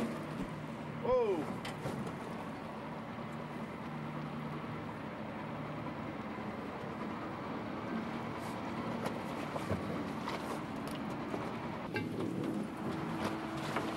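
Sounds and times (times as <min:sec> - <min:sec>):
boat engine running: 0:00.0 - 0:13.9.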